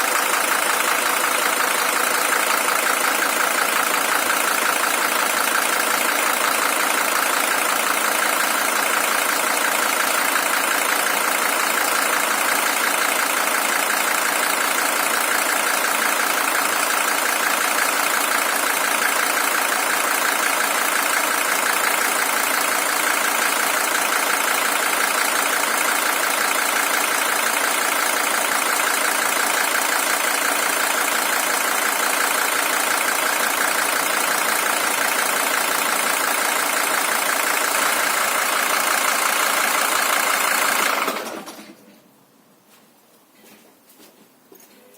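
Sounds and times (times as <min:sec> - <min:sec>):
diesel engine idling: 0:00.0 - 0:41.6.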